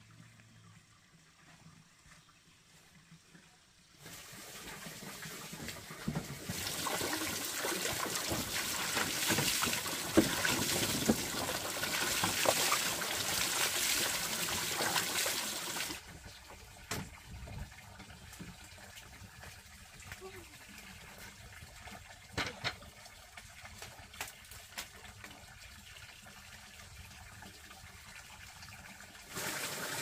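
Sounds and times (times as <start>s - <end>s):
water pouring and splashing: 0.0s - 30.0s.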